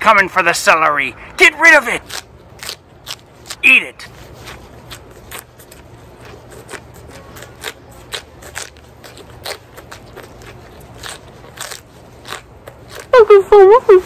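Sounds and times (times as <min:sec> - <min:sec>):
celery crunching: 0:01.8 - 0:13.4.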